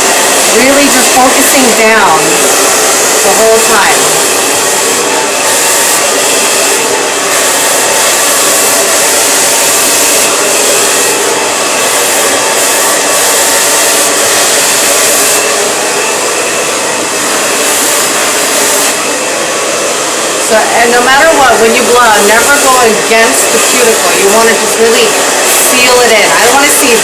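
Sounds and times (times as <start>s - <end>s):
blow dryer running on high: 0.0s - 27.0s.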